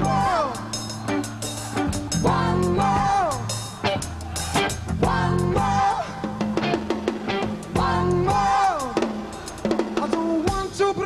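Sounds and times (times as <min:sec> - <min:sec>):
electric bass guitar: 0:00.0 - 0:09.4
drum kit: 0:00.0 - 0:11.0
rock band playing: 0:00.0 - 0:11.0.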